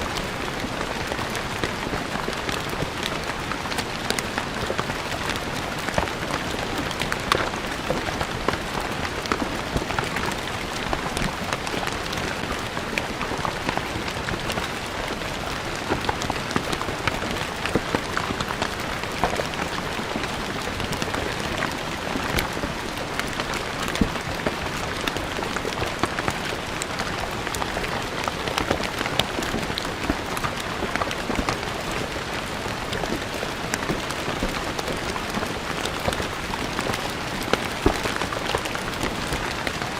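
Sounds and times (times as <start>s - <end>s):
rain on stone paving: 0.0s - 39.9s.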